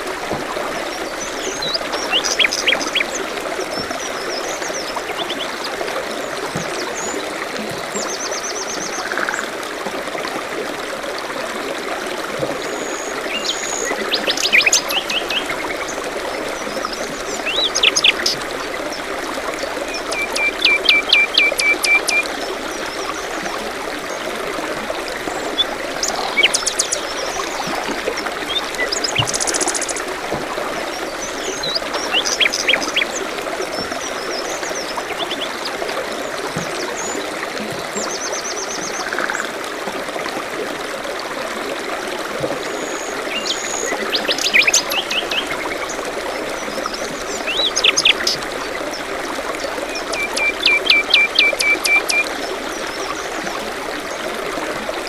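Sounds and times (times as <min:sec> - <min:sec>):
songbirds calling: 0:00.0 - 0:09.5, 0:12.7 - 0:24.3, 0:25.0 - 0:39.5, 0:42.8 - 0:53.5
stream running: 0:00.0 - 0:55.0.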